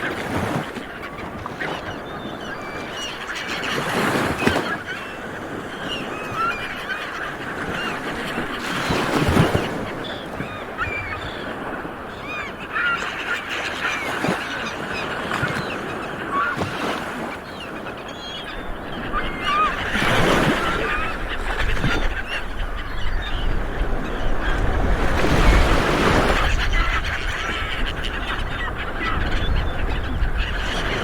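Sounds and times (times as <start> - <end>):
seabirds honking calls: 0.0 - 31.0.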